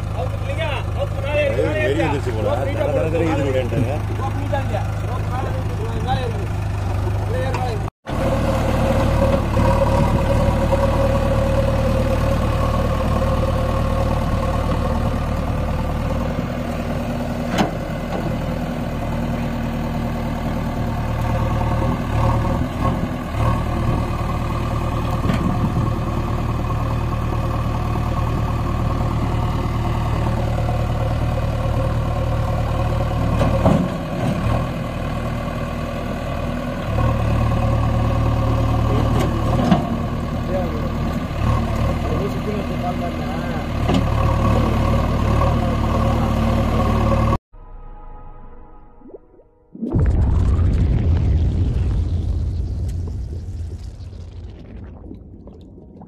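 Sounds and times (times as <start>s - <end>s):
backhoe diesel engine under load: 0.0s - 47.4s.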